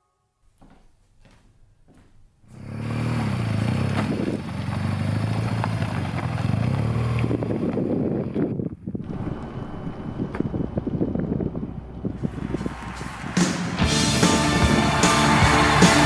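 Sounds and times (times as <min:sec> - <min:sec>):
off-road vehicle engine revving: 0:02.5 - 0:16.0.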